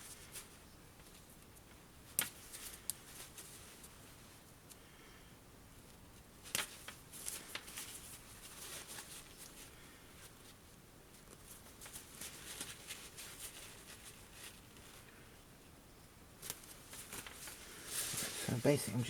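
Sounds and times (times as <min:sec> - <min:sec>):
fabric rustling: 0:00.0 - 0:04.5, 0:05.8 - 0:15.4, 0:16.4 - 0:19.0.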